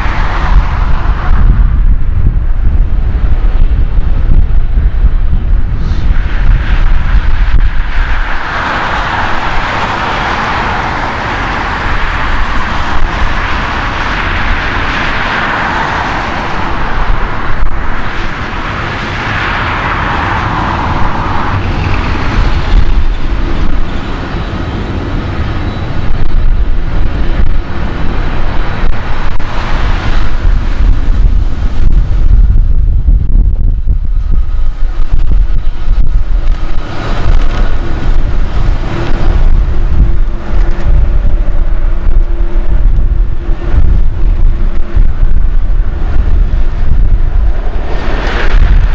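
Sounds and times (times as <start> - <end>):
jet engines rushing hiss: 0.0 - 48.9
wind rumbling on microphone: 0.0 - 48.9.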